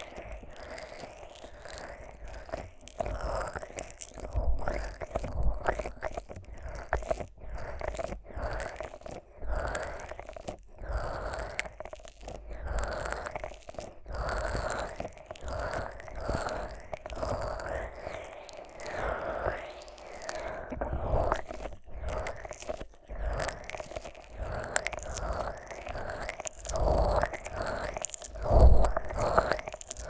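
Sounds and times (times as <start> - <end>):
sticky squelching fingers rubbing: 0.0 - 30.0.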